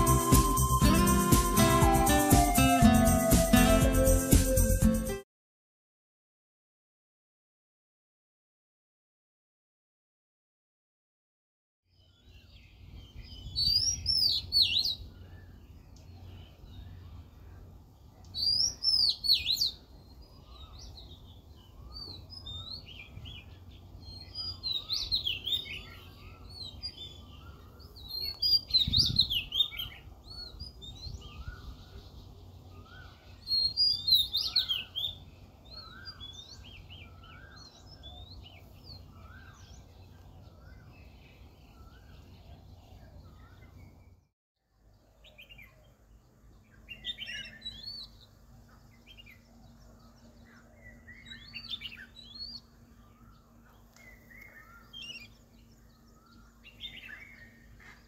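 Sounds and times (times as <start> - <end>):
birds chirping and twittering: 0.0 - 4.8, 11.9 - 58.0.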